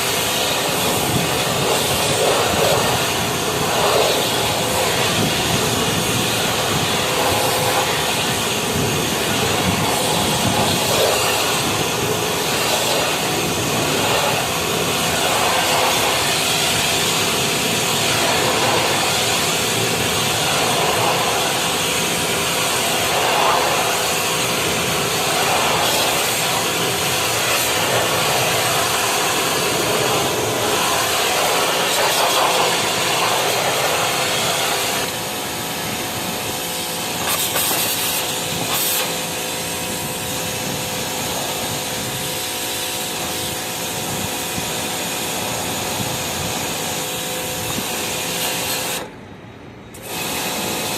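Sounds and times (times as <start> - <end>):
water spraying hiss: 0.0 - 49.1, 50.0 - 50.9.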